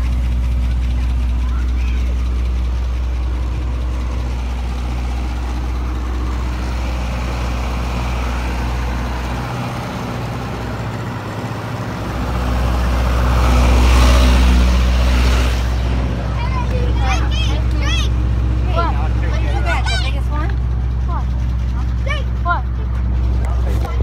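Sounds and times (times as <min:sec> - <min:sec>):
truck idling with low hum: 0:00.0 - 0:24.0.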